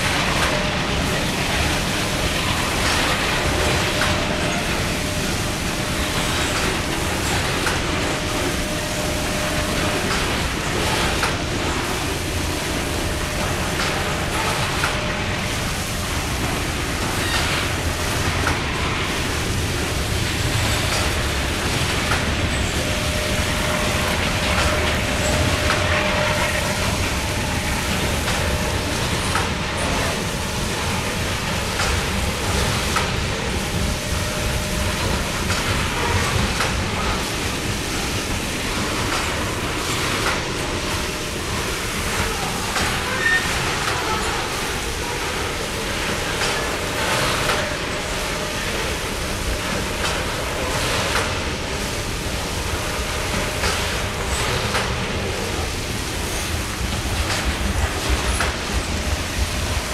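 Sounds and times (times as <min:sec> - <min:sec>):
rumble of train wheels on track: 0:00.0 - 0:59.9.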